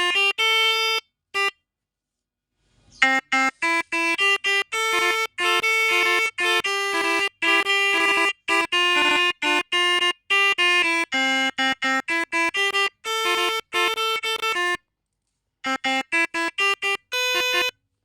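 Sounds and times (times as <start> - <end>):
melodica playing short notes: 0.0 - 1.6, 2.9 - 14.8, 15.6 - 17.8.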